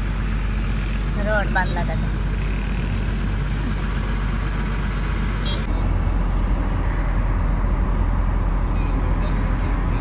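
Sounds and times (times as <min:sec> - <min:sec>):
traffic noise: 0:00.0 - 0:10.0
truck engine rumble: 0:00.0 - 0:10.0.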